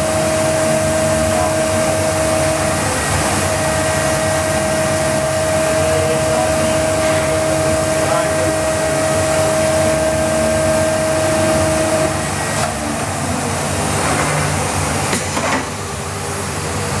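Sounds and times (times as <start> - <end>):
machine whine: 0.0 - 17.0
machine whirring and hissing: 0.0 - 17.0.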